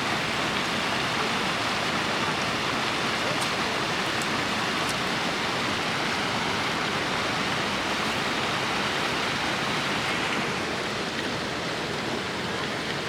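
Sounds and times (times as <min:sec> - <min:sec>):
waterfall roaring into pool: 0:00.0 - 0:13.0.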